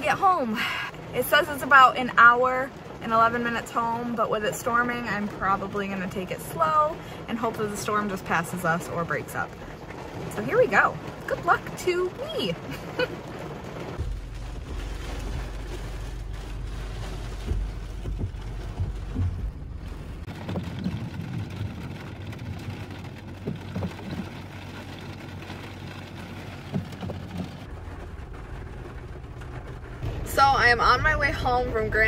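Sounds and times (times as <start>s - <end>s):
car engine and road noise: 0.0s - 32.0s
heavy rain on car roof: 0.0s - 32.0s.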